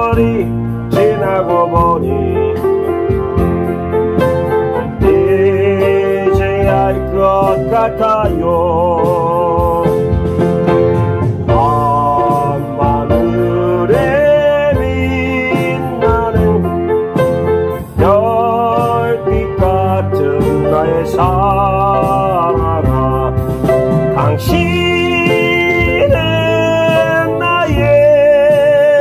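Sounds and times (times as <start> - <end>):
trot song on keyboard: 0.0 - 29.0.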